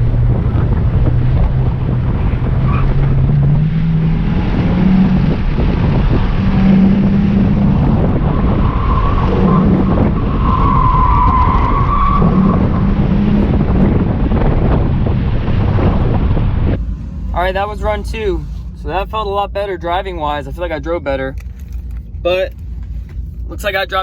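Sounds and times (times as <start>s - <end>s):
car engine driven hard: 0.0s - 24.0s
road and wind rumble: 0.0s - 24.0s.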